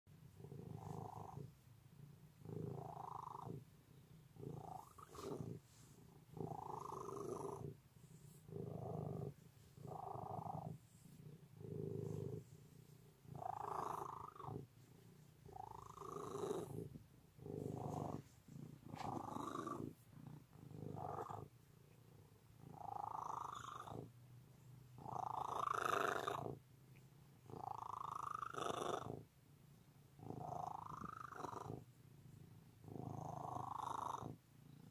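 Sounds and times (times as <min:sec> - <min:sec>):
cat purring: 0:00.1 - 0:34.9.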